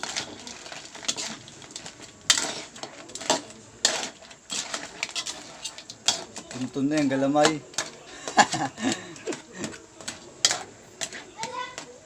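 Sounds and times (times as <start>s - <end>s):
metal spatula scraping wok: 0.0s - 12.0s.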